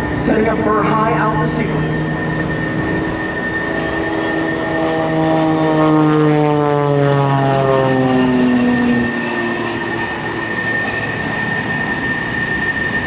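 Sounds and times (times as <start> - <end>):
plane engine and propeller drone: 0.0 - 13.0.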